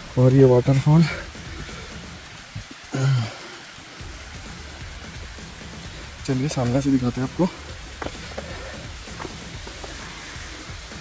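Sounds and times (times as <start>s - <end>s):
background music: 0.0s - 11.0s
waterfall rushing: 0.0s - 11.0s.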